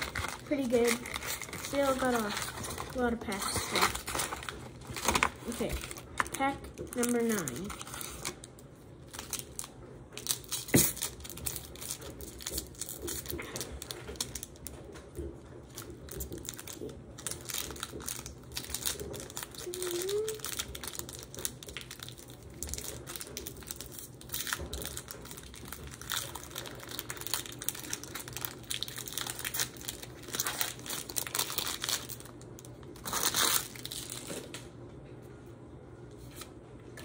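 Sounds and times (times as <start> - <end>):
wrapper tearing open: 0.0 - 14.7, 15.7 - 34.5
foil wrapper crinkling: 0.0 - 34.6.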